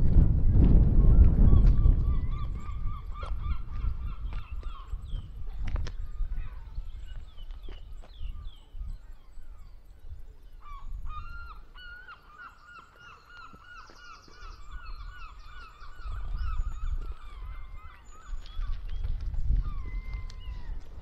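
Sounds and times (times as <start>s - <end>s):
small birds chirping: 1.2s - 21.0s.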